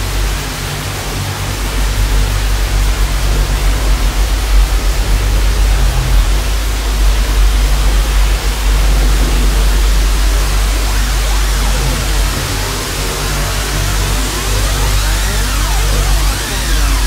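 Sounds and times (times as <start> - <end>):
deep bass drone: 0.0 - 17.0
tv static hiss: 0.0 - 17.0.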